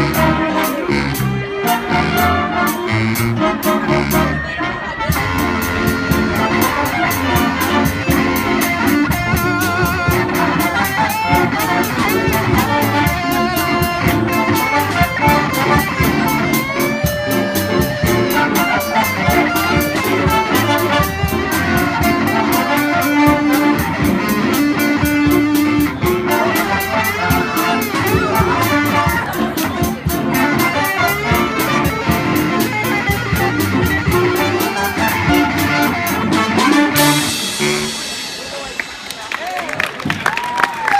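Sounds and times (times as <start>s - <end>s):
jazz band playing: 0.0s - 40.9s
drums and cymbals beat: 5.1s - 40.4s.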